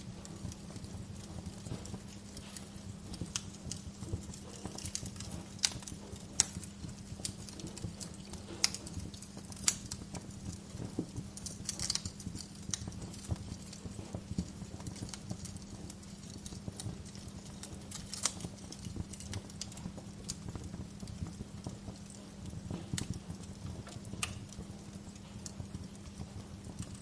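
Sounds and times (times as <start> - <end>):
low steady hum: 0.0 - 27.0
wood fire crackling and popping: 0.0 - 27.0.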